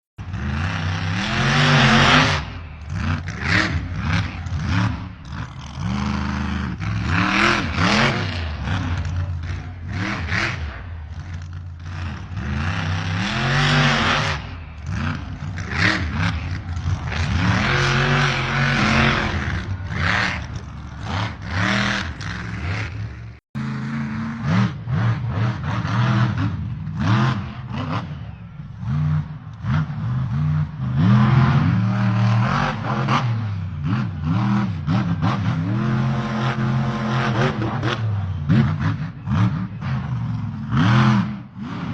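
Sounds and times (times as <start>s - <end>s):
simulated diesel engine revving: 0.2s - 41.9s.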